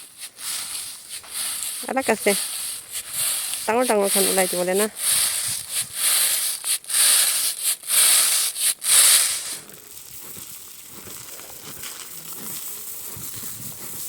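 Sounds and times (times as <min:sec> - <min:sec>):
dry plants rustling and crackling: 0:00.0 - 0:14.0.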